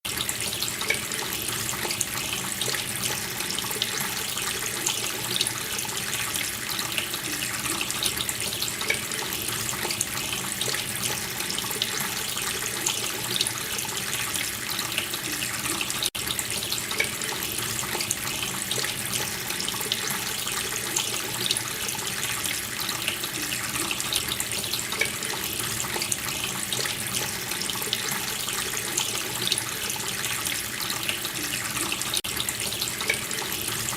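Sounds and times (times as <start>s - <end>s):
tap water running into sink: 0.0s - 33.9s.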